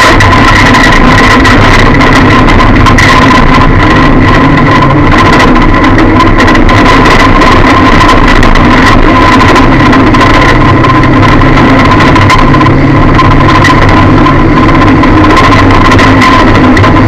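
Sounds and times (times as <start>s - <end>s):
car engine running: 0.0s - 17.0s
steady high whine: 0.0s - 17.0s.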